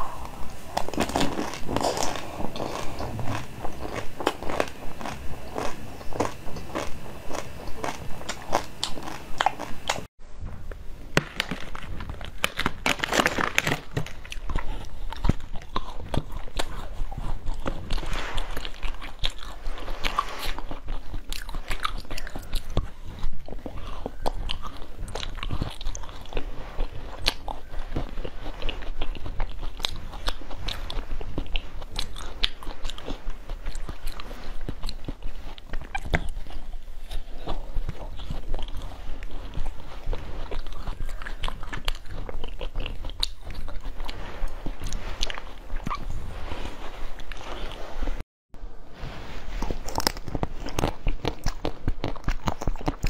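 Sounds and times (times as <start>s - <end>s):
crunching bites and chewing: 0.0s - 10.1s, 11.2s - 46.2s, 49.6s - 53.0s.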